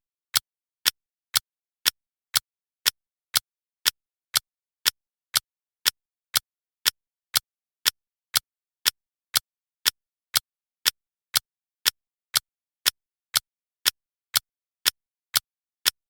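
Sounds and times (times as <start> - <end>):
clock ticking: 0.3 - 16.0.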